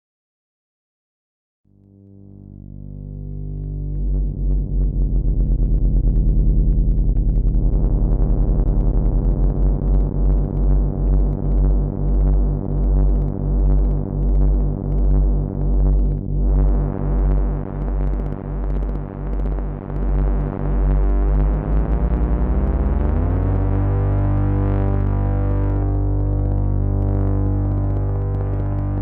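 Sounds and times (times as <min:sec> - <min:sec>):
pulsing synthesizer bass hum: 0:01.7 - 0:29.0.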